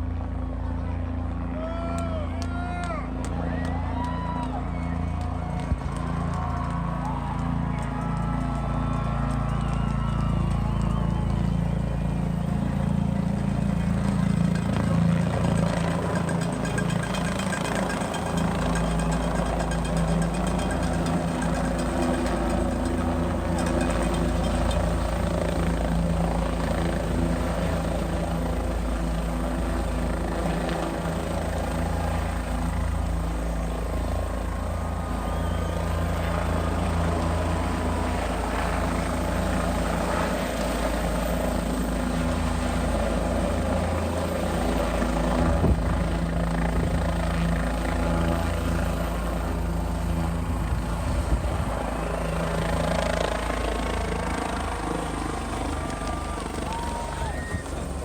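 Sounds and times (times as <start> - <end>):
helicopter running: 0.0 - 58.0.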